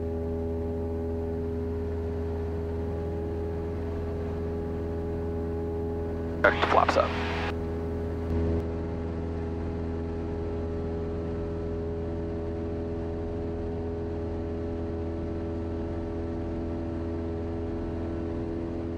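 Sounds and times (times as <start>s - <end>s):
airplane engine droning in cabin: 0.0s - 18.9s.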